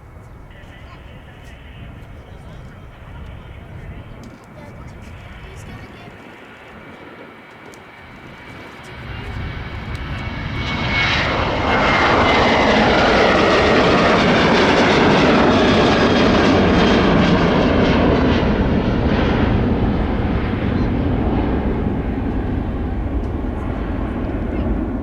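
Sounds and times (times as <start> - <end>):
jet engines passing: 0.0 - 25.0.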